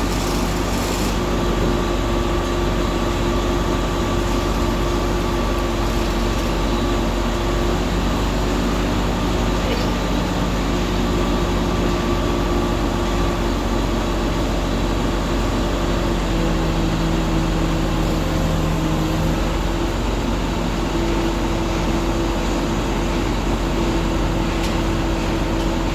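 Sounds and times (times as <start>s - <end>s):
crane engine running: 0.0s - 25.9s.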